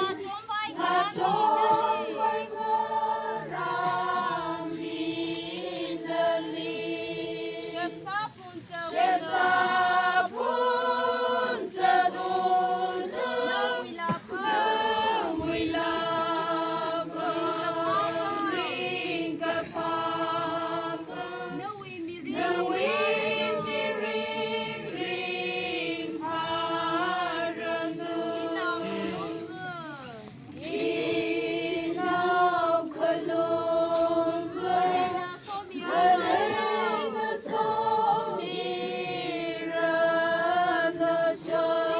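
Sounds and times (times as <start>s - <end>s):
group singing unaccompanied: 0.0s - 41.9s.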